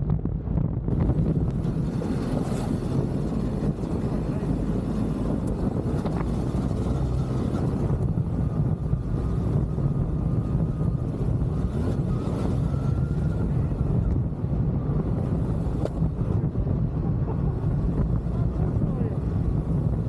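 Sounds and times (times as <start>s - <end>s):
motorcycle engine rumbling: 0.0s - 20.0s
wind buffeting microphone: 0.0s - 20.0s.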